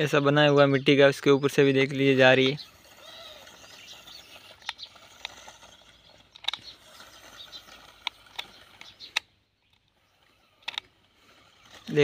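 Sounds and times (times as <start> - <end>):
faint outdoor background: 0.0 - 12.0
sharp clicks: 2.2 - 12.0.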